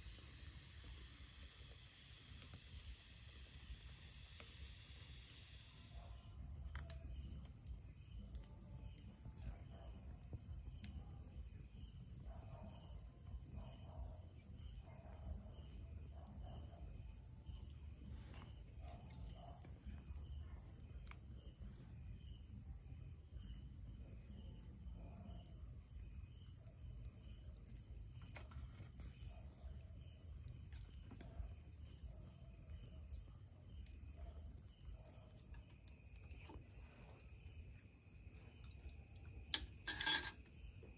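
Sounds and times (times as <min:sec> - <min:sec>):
wood fire crackles: 0:00.0 - 0:12.2, 0:17.0 - 0:39.5
crickets chirping: 0:00.0 - 0:40.9.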